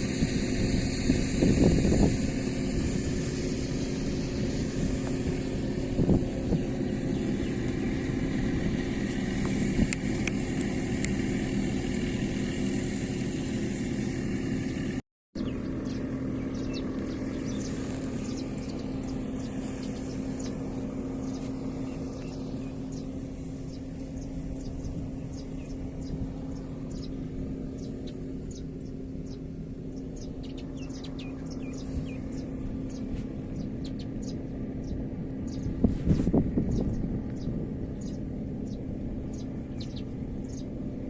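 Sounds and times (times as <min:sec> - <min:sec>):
small birds chirping: 0:00.0 - 0:12.9, 0:13.7 - 0:41.0
low engine-like hum: 0:00.0 - 0:41.0.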